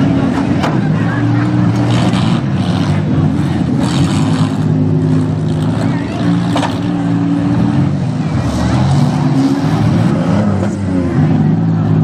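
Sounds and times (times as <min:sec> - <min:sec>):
engines revving: 0:00.0 - 0:12.0.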